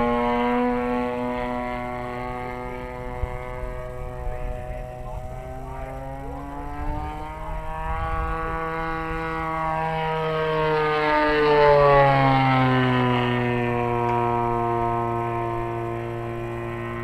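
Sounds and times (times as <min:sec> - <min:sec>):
model plane engine flying past: 0:00.0 - 0:17.0
propeller buzz: 0:00.0 - 0:17.0.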